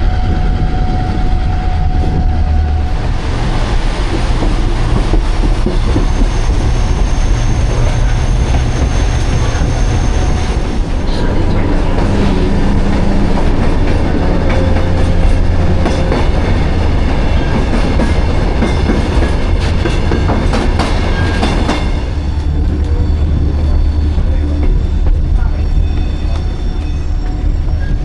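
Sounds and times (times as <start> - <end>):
train rumble: 0.0 - 28.0
wheels clacking over rails: 3.8 - 28.0.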